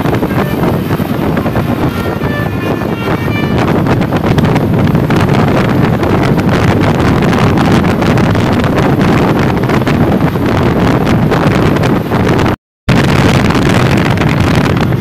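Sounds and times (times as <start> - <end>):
road traffic rumble: 0.0 - 12.0
wind buffeting microphone: 0.0 - 15.0.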